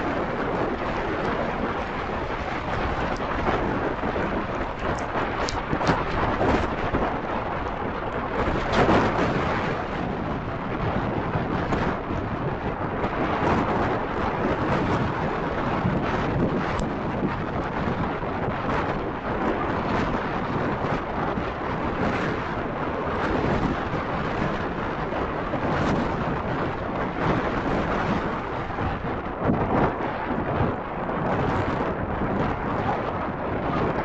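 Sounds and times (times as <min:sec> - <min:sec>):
gusting wind: 0:00.0 - 0:34.0
heavy rain: 0:00.0 - 0:34.0.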